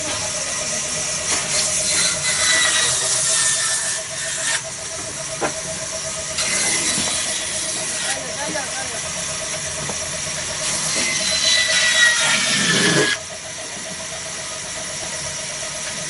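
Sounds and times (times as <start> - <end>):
diesel engine running: 0.0 - 11.4, 12.2 - 16.0.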